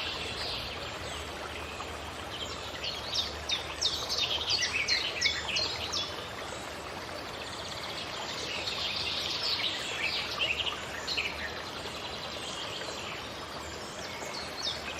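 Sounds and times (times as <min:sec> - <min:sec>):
forest ambience hiss: 0:00.0 - 0:14.9.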